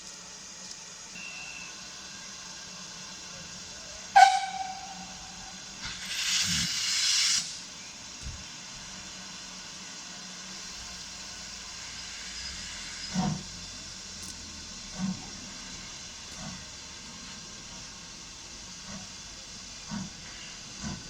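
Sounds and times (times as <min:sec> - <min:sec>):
steam locomotive hissing: 0:00.0 - 0:21.0.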